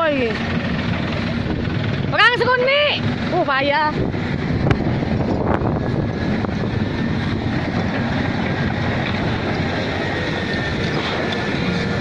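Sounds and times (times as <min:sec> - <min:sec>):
truck engine rumbling: 0:00.0 - 0:12.0
wind buffeting microphone: 0:00.0 - 0:12.0.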